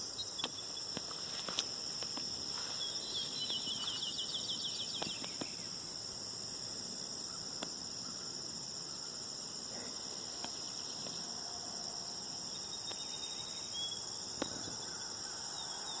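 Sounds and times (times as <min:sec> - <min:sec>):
crickets and insects trilling: 0:00.0 - 0:16.0.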